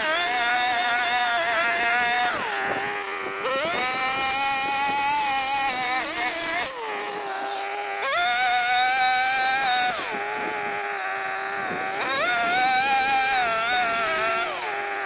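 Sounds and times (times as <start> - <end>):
brushcutter engine revving: 0.0 - 15.0.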